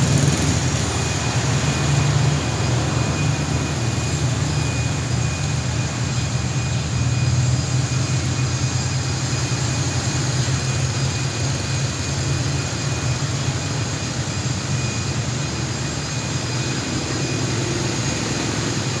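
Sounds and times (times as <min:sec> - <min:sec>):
low train engine hum: 0:00.0 - 0:19.0
train running noise: 0:00.0 - 0:19.0.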